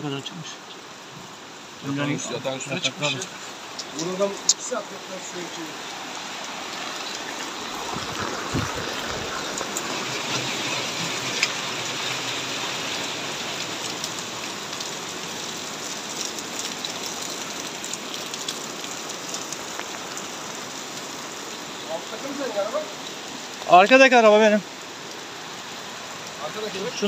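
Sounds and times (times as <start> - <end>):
rain on hard surfaces: 0.0 - 27.0
drips and splashes: 2.5 - 27.0.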